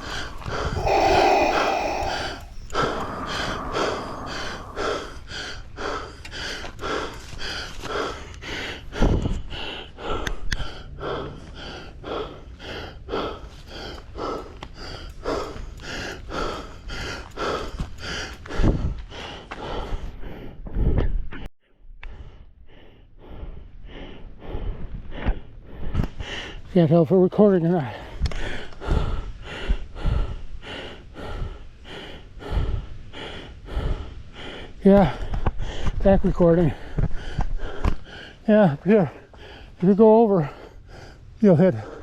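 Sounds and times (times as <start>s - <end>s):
person panting hard: 0.0s - 21.0s, 22.1s - 26.6s, 27.9s - 36.0s, 36.6s - 42.0s.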